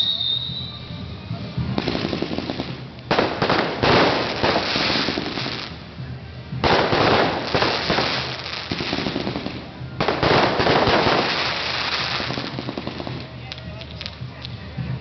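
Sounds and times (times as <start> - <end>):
fireworks crackling bangs: 1.5 - 14.6.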